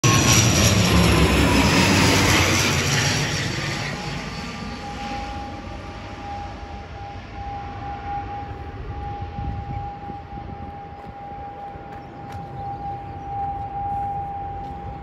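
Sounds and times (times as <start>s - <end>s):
steady high whine: 0.0s - 15.0s
turboprop airliner flying over: 0.0s - 15.0s.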